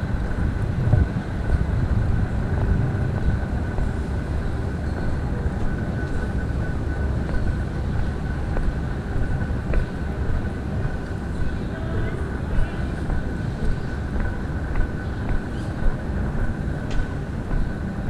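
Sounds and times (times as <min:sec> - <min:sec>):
high-pitched hum: 0:00.0 - 0:18.0
low city rumble: 0:00.0 - 0:18.0.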